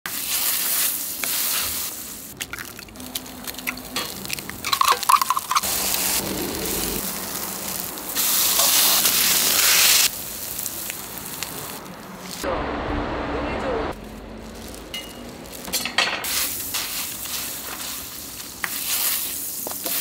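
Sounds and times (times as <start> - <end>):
food sizzling on a griddle: 0.1 - 12.4, 14.4 - 20.0.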